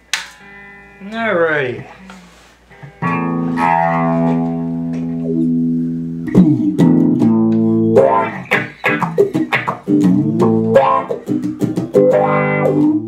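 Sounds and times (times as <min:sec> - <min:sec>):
electric guitar with wah: 0:00.3 - 0:13.0.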